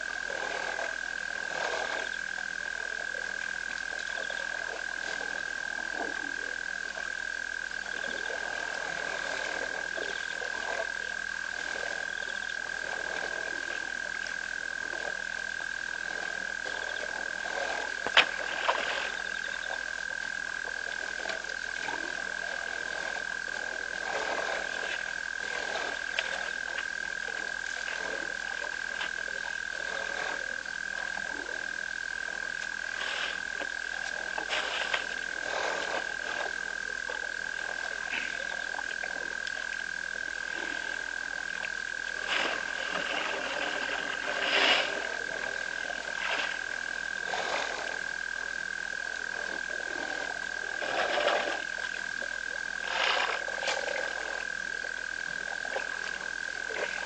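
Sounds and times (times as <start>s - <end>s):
elephants drinking water: 0.0s - 6.6s, 7.8s - 57.0s
frogs calling: 0.0s - 57.0s.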